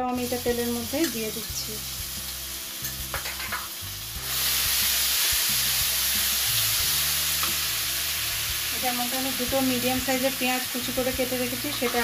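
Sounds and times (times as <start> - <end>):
paste sizzling in hot butter: 0.1 - 12.0.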